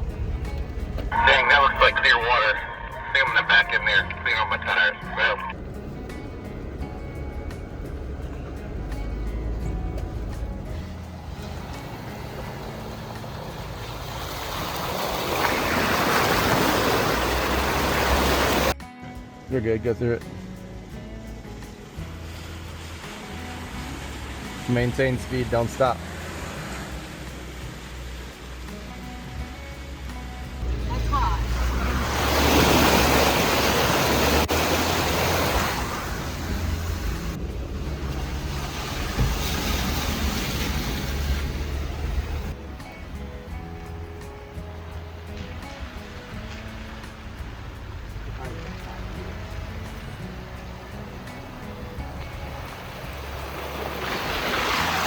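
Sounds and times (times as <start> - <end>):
engine running low: 0.0 - 18.8, 20.3 - 55.0
water splashed by tyres: 5.6 - 18.8, 21.8 - 29.6, 30.6 - 55.0.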